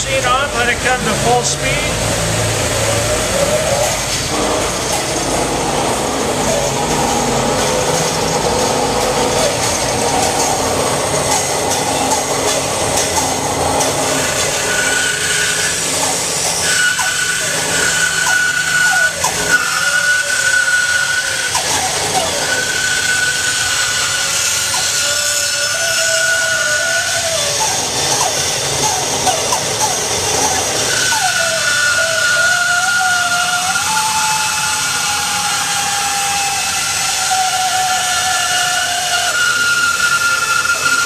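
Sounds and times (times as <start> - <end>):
bandsaw motor running: 0.0 - 41.0
high whine of blade cutting: 0.0 - 41.0.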